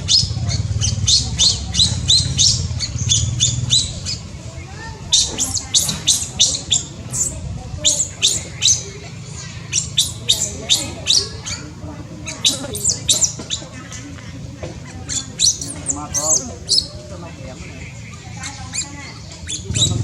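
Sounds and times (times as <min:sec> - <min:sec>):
baby monkey squeaking: 0:00.0 - 0:04.3, 0:05.0 - 0:17.1, 0:18.4 - 0:20.0.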